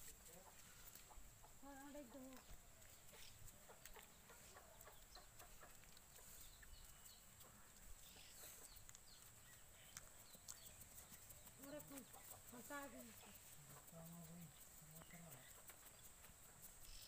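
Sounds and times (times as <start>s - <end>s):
faint chirps: 0.4s - 17.0s.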